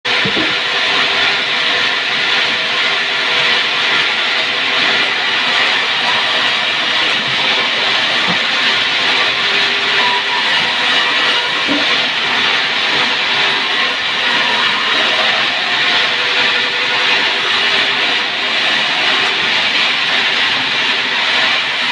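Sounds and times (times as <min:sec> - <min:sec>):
power tool cutting wood: 0:00.1 - 0:21.9.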